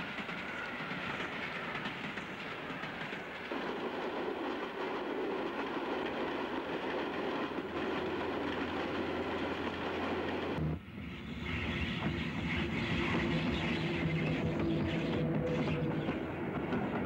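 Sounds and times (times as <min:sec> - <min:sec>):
train rolling on track: 0:00.0 - 0:17.0.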